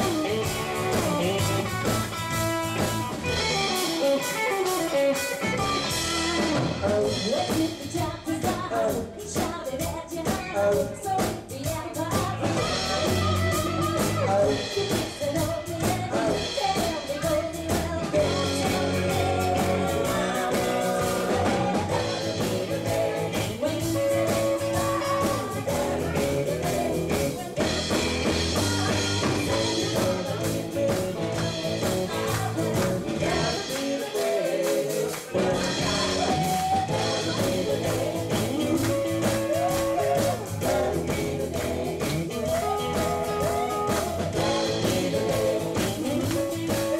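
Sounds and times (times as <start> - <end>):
country-rock band playing: 0.0 - 46.9
woman singing into microphone: 7.1 - 46.9.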